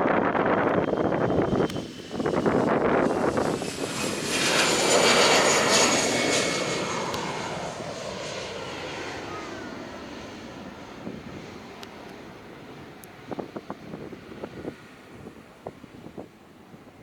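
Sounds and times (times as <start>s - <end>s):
jet airliner passing with whine: 0.0s - 17.0s.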